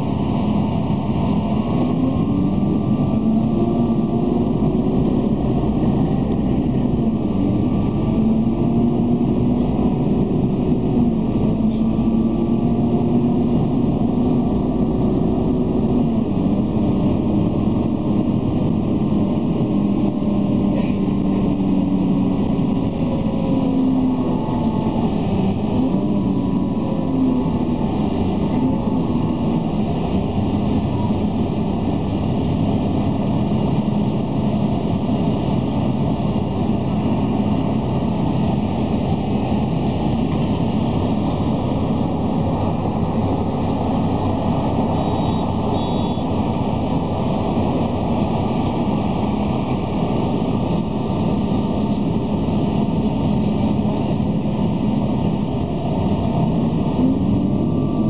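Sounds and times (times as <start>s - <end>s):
vehicle road and engine noise: 0.0s - 58.0s.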